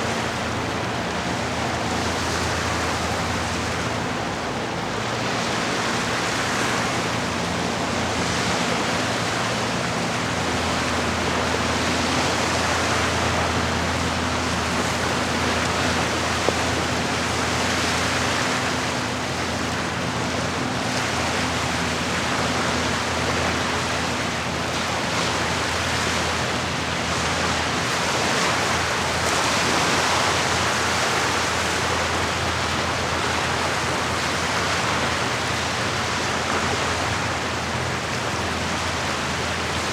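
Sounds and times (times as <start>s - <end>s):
lake water washing on shore: 0.0s - 39.9s.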